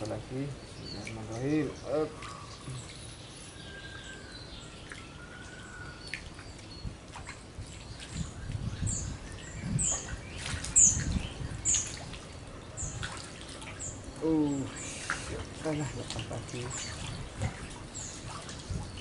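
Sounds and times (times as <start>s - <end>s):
small bird chirping: 0.1s - 19.0s.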